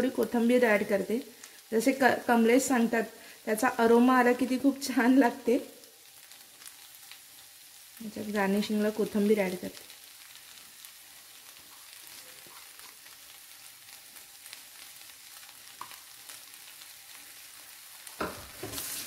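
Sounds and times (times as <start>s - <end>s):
food frying in a pan: 0.0s - 19.0s.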